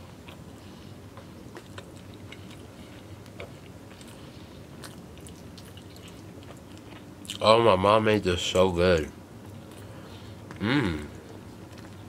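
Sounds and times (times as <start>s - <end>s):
person chewing food: 0.0s - 7.4s, 9.4s - 12.0s
low steady hum: 0.0s - 12.0s.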